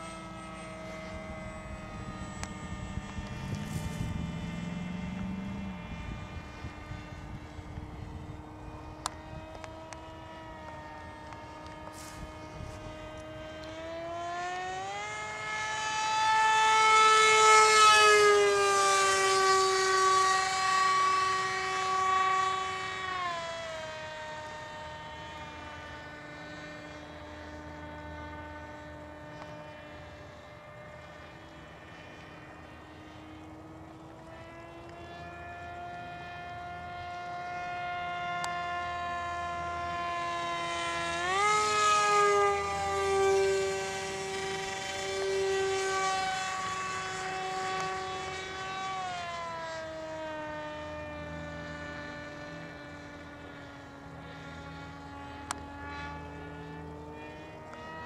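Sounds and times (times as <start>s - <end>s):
model airplane motor whine: 0.0s - 58.0s.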